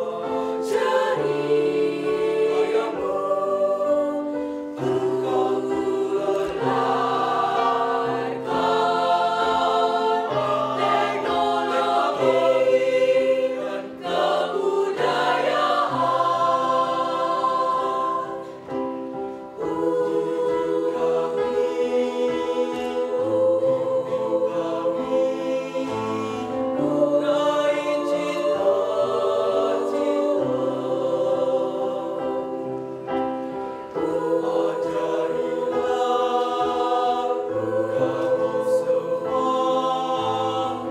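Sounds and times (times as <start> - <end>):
mixed choir singing: 0.0 - 40.9.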